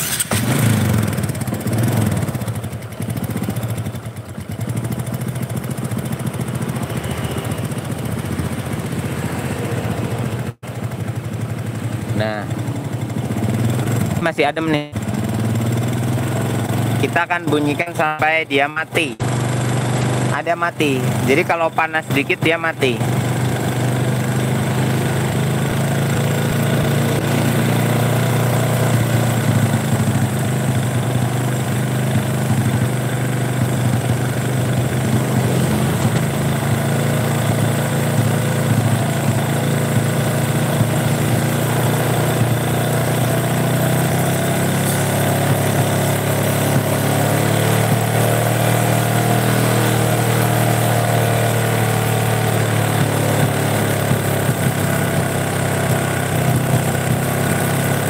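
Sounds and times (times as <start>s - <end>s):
motorcycle engine idling: 0.0s - 17.8s, 19.2s - 58.0s.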